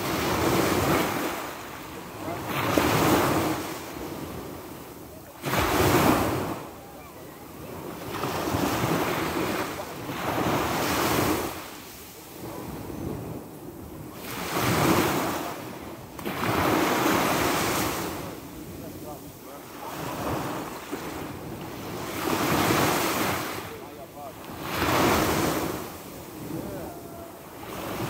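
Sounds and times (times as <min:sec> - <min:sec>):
sea waves breaking on shore: 0:00.0 - 0:28.0.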